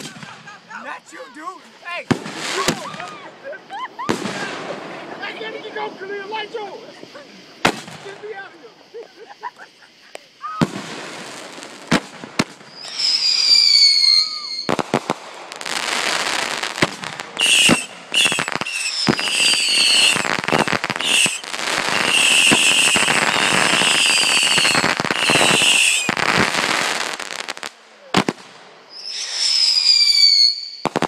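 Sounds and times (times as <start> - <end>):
firework bangs: 0.0 - 0.9, 1.9 - 8.5, 10.4 - 31.0
firework whistles: 0.0 - 0.9, 1.8 - 31.0
firework crackling and popping: 0.0 - 31.0.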